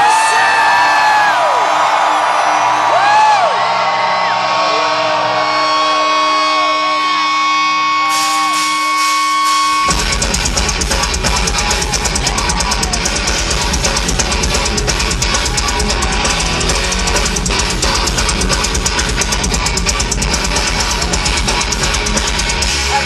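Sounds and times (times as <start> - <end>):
live heavy metal band: 0.0 - 23.0.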